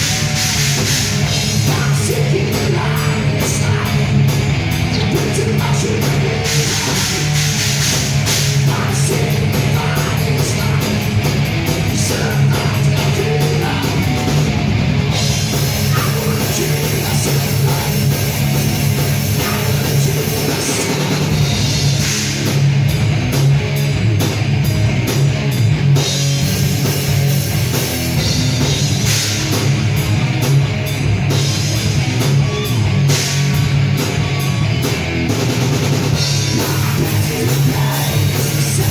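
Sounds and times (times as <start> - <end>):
distorted guitars: 0.0 - 38.9
drum kit: 0.0 - 38.9.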